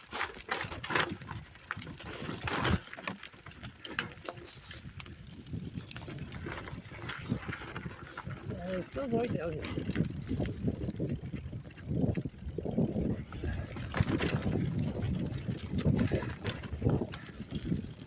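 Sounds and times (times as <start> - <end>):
bicycle parts rattling: 0.0 - 18.0
tyres rumbling on dirt: 0.0 - 18.0.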